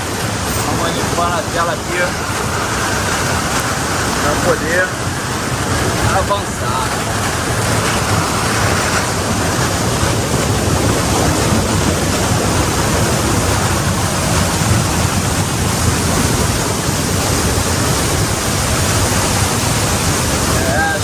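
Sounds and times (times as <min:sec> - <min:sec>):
waterfall and rapids rushing: 0:00.0 - 0:21.0.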